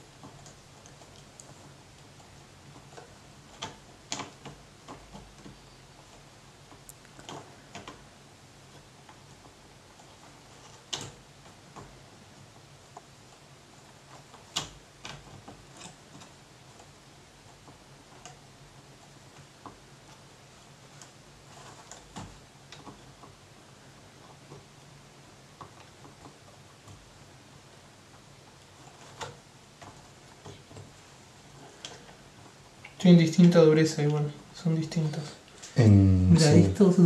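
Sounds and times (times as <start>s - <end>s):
faint low hum: 0.0s - 37.0s.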